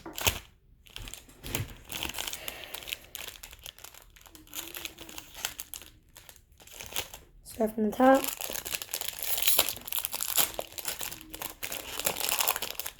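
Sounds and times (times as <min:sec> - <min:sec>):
wrapper crinkling: 0:00.0 - 0:12.9.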